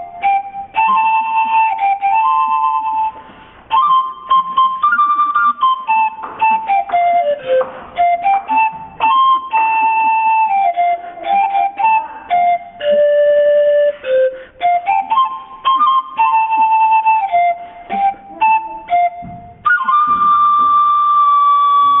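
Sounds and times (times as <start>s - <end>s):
panpipe melody: 0.0s - 22.0s.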